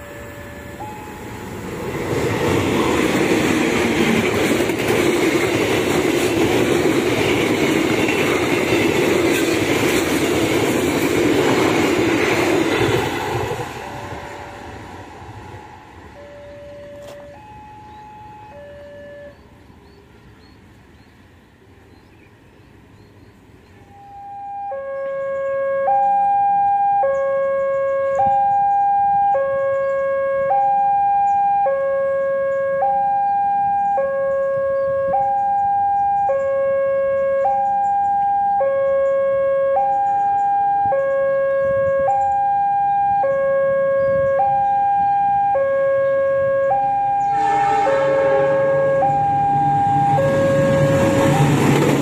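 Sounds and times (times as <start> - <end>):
two-tone railway warning alarm: 0.0 - 20.0, 23.8 - 52.0
diesel train running: 0.0 - 52.0.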